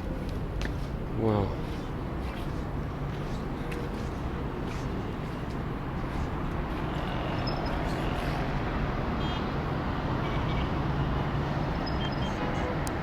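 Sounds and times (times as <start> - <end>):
distant city traffic hum: 0.0 - 13.0.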